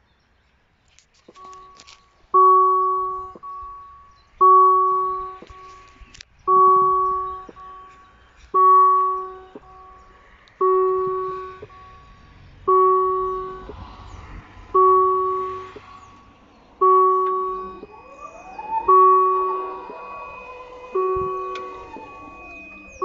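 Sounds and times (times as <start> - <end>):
level crossing warning bell: 1.3 - 14.0, 14.7 - 23.0.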